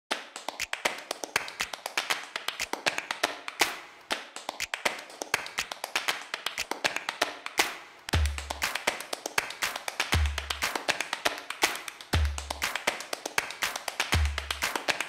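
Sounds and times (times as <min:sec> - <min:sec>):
percussive music beat: 0:00.1 - 0:15.0.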